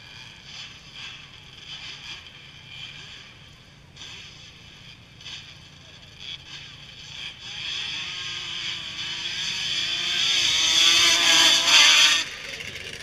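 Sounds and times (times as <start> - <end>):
atv engines at full throttle: 0.0 - 13.0.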